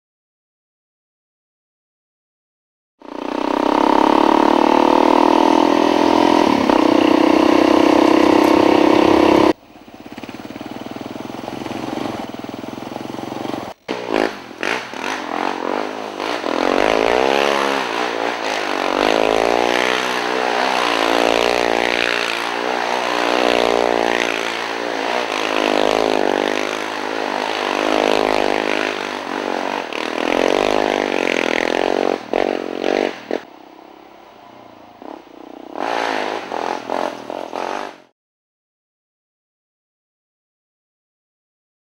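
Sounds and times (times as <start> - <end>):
quad bike engine revving: 3.0 - 33.5, 35.0 - 38.1.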